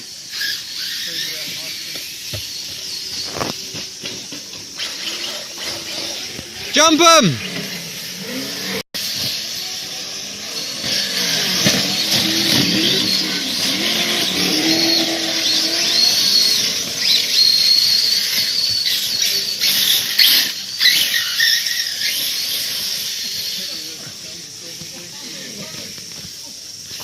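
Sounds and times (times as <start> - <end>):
rc truck motors whining: 0.0 - 27.0
tyres hissing on track: 0.0 - 27.0.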